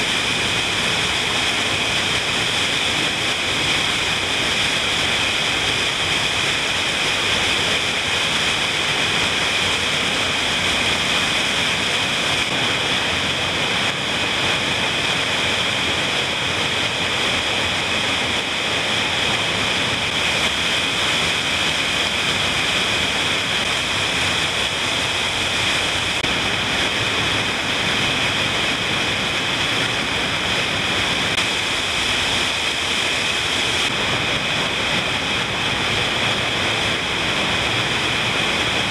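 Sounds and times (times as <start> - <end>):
waterfall splashing into a pool: 0.0 - 38.9.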